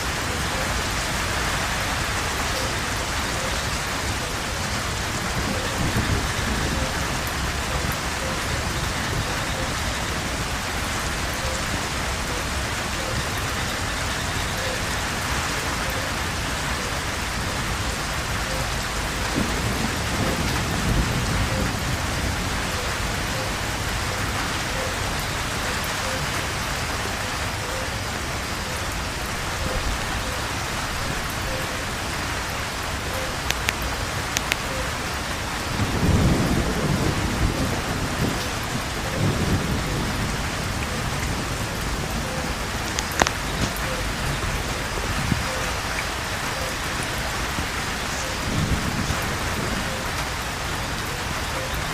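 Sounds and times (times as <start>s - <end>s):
heavy rain pouring: 0.0s - 51.9s
low rumble of thunder: 1.3s - 27.6s, 34.0s - 45.6s, 47.5s - 51.9s.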